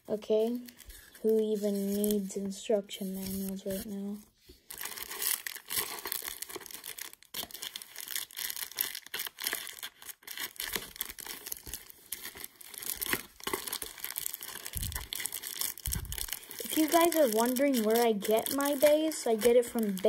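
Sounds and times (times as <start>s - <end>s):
plastic bags crinkling: 3.3s - 20.0s.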